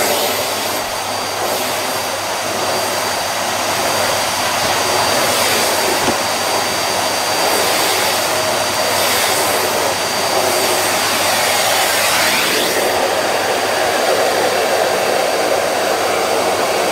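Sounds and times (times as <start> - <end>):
thin high whine: 0.0 - 14.0
vacuum cleaner running over carpet: 0.0 - 16.9.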